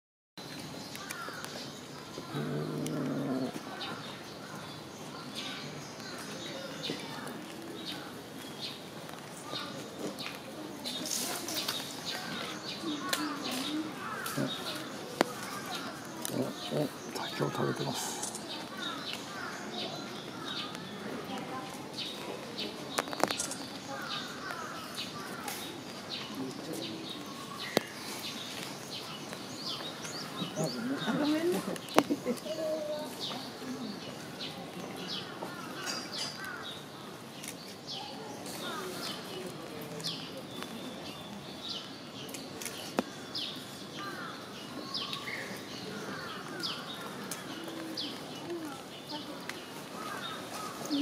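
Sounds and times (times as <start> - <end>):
small birds chirping: 0.4 - 51.0.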